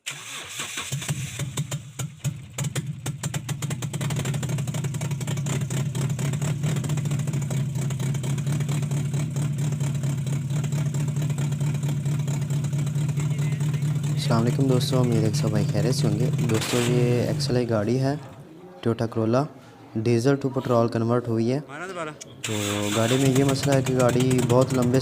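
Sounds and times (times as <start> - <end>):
car engine without silencer: 0.0 - 18.4, 22.2 - 25.0.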